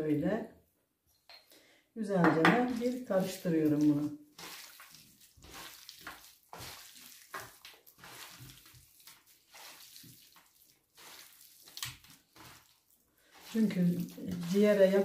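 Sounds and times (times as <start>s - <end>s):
wet mixing sounds: 2.4s - 15.0s.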